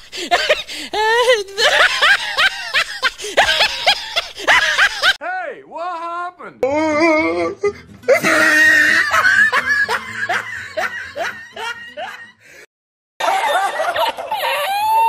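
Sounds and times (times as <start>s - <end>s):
person laughing: 0.0s - 5.2s, 7.0s - 12.4s, 13.2s - 15.0s.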